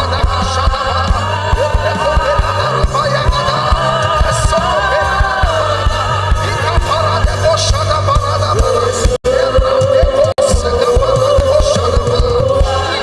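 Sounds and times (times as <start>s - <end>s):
bass line: 0.0s - 13.0s
drum hits: 0.0s - 13.0s
voices singing gospel: 0.0s - 13.0s.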